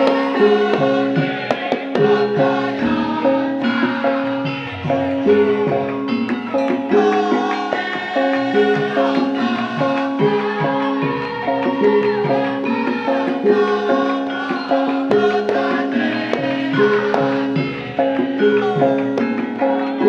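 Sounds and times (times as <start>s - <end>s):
gamelan ensemble playing: 0.0s - 20.0s
hand-drum strokes: 0.0s - 20.0s.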